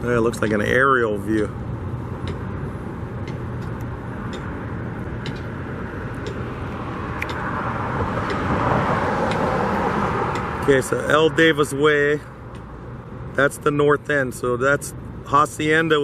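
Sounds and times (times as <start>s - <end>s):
road traffic: 0.0s - 16.0s
vehicle passing: 1.4s - 15.2s.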